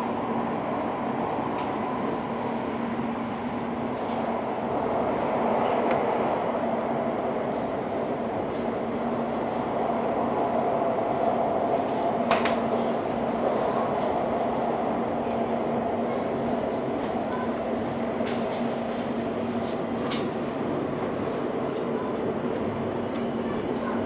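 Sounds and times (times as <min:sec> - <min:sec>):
train wheels rushing on track: 0:00.0 - 0:24.0.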